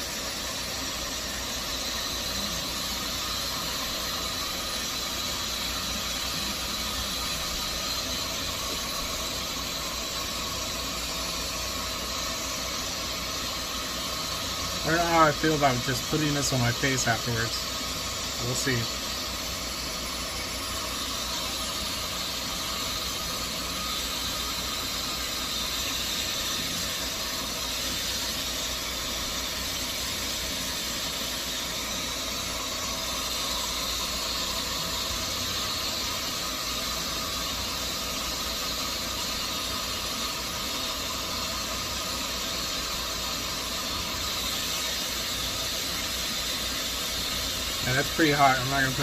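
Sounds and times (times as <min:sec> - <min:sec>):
hair dryer running: 0:00.0 - 0:49.0.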